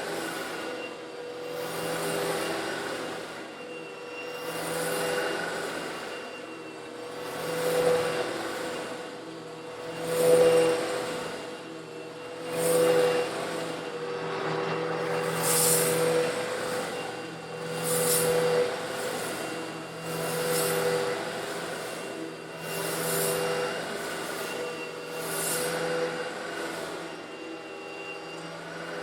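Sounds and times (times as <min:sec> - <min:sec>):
vacuum cleaner motor hum: 0:00.0 - 0:29.0.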